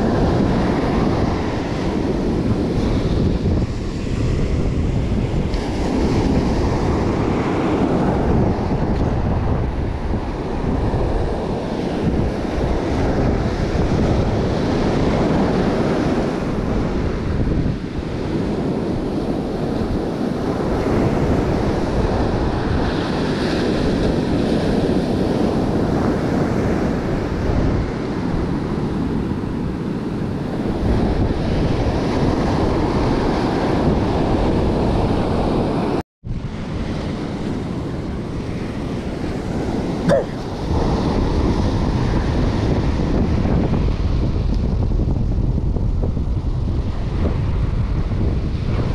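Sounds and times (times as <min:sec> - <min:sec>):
ocean surf breaking on beach: 0:00.0 - 0:48.9
wind buffeting microphone: 0:00.0 - 0:48.9.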